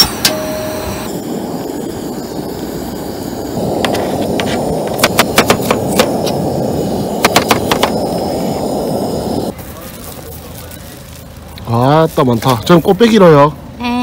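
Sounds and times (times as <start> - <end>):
low rushing noise: 0.0 - 13.7.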